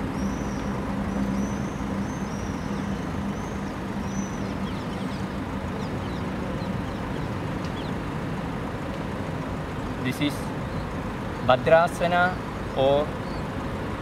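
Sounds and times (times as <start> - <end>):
bird chirping: 0.0 - 8.1, 9.8 - 13.6
low engine drone: 0.0 - 14.0
traffic hum: 0.0 - 14.0.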